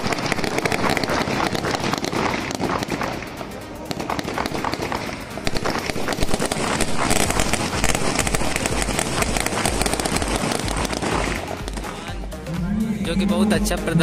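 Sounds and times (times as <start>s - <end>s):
rifle shots crackling: 0.0s - 12.1s.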